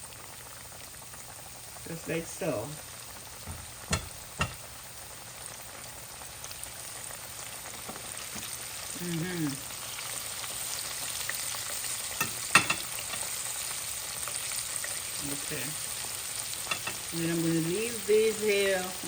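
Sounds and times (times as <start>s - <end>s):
chicken frying in oil: 0.0s - 19.0s.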